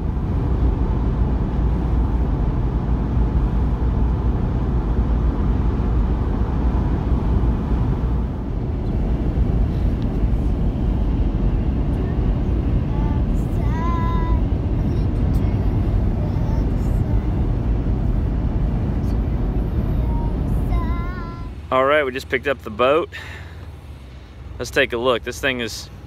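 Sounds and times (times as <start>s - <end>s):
road and engine rumble in cabin: 0.0s - 26.0s.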